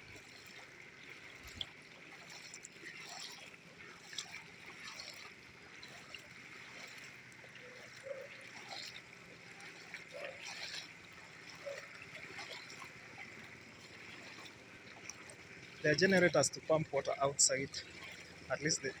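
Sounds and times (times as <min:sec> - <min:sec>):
moving water: 0:00.0 - 0:19.0
person wading through water: 0:00.0 - 0:19.0.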